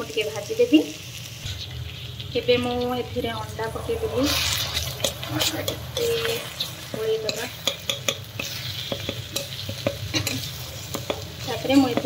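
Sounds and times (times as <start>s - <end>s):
oil sizzling: 0.0s - 12.0s
spatula scraping a pan: 1.4s - 12.0s.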